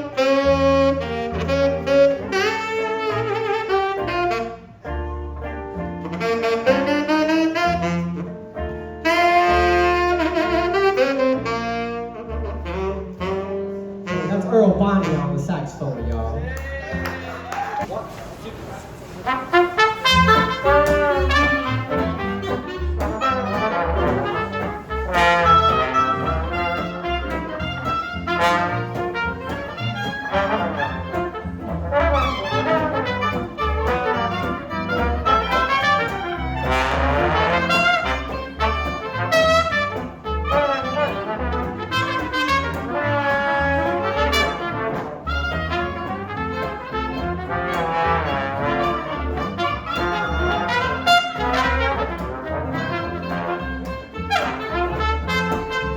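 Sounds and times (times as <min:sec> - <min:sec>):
horns playing melody: 0:00.0 - 0:16.2, 0:19.1 - 0:55.9
live jazz band playing: 0:00.0 - 0:55.9.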